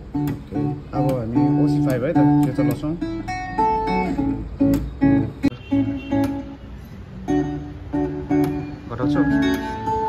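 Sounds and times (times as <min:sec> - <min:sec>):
acoustic guitar with octave effect: 0:00.0 - 0:10.0.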